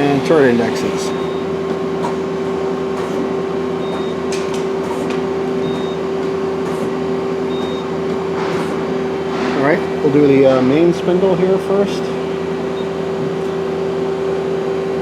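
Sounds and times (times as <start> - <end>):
lathe turret clunks: 0.0 - 13.8
machine hum: 0.0 - 15.0.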